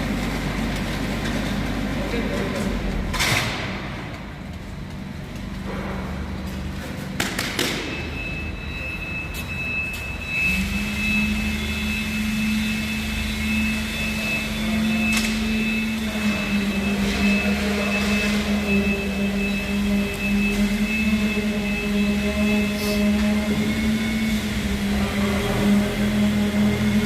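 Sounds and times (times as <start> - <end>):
construction machine engine running: 0.0 - 27.0
continuous high whine: 0.0 - 27.0.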